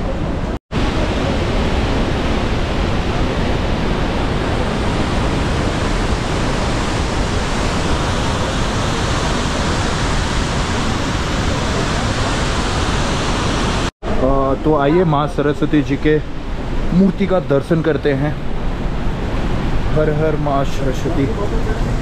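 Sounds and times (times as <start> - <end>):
mountain river torrent rushing: 0.0 - 22.0.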